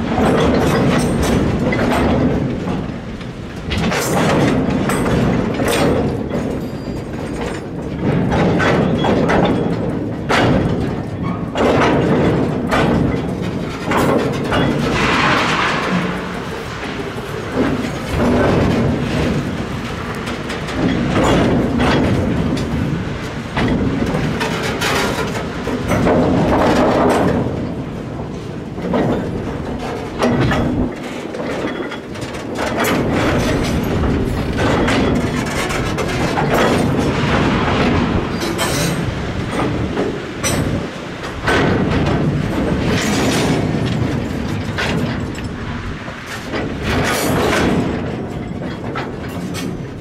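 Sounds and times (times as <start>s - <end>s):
wagon wheels clattering over rail joints: 0.0s - 50.0s.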